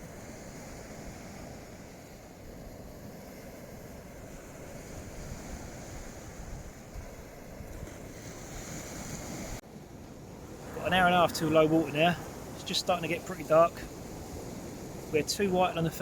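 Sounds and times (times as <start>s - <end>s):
wind on microphone: 0.0s - 15.2s
sea waves washing on beach: 0.0s - 16.0s.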